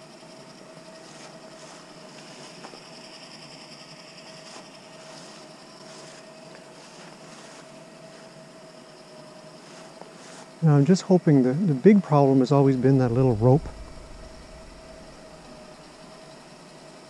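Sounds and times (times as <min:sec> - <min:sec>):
winch humming and whining: 0:00.0 - 0:17.0.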